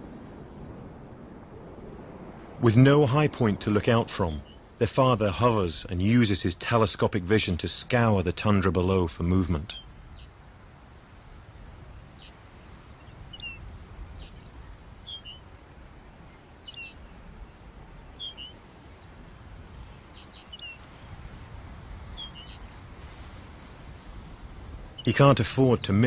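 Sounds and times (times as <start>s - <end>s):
low steady wind: 0.0s - 26.0s.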